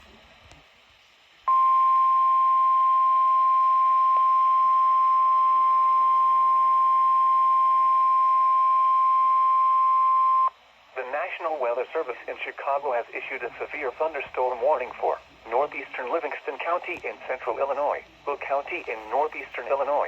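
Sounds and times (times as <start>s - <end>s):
weather radio warning beep: 1.5s - 17.9s.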